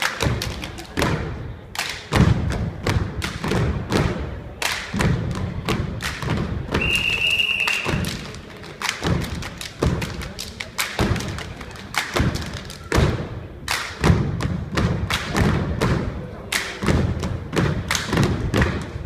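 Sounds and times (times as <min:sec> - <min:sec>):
sharp claps or slaps: 0:00.0 - 0:19.0.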